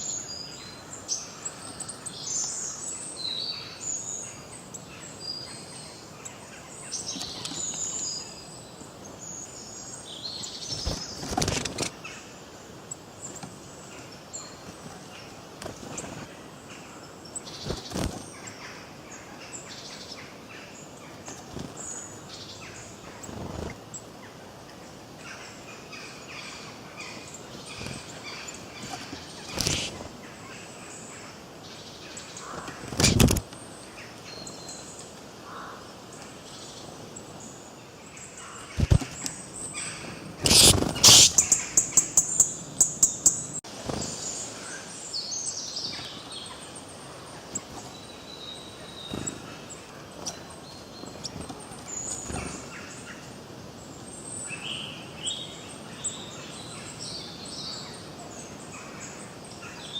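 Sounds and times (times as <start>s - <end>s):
background hiss: 0.0s - 59.9s
songbirds chirping: 0.0s - 59.9s.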